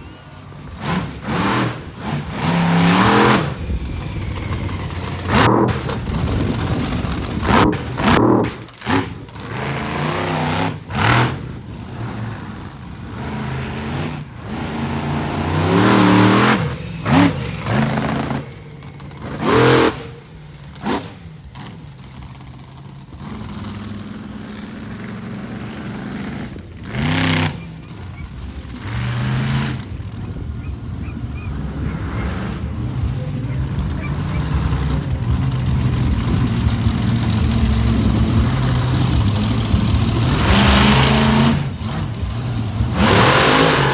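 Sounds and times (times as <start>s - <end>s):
monster truck engine revving: 0.0s - 43.9s.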